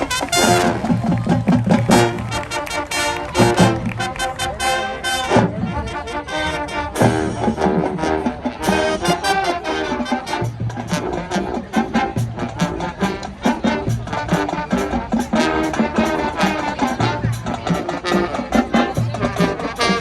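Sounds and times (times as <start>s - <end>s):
marching drumline: 0.0s - 5.8s, 7.0s - 20.0s
brass instruments playing: 0.0s - 20.0s.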